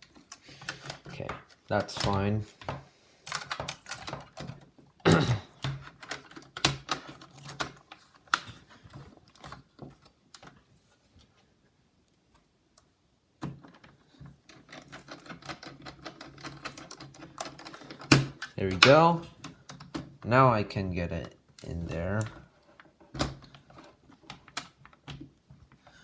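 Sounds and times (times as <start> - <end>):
plastic parts clicking and tapping: 0.0 - 10.6, 12.8 - 20.2, 21.2 - 26.0.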